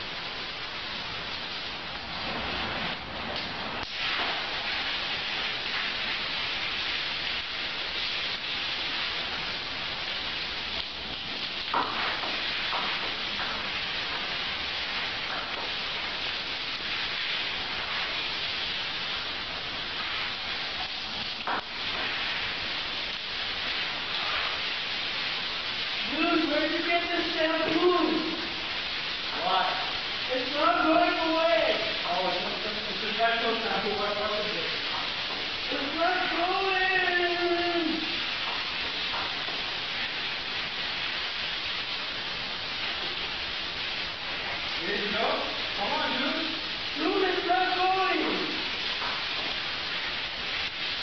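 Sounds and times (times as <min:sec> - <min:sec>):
shower water running: 0:00.0 - 0:51.0.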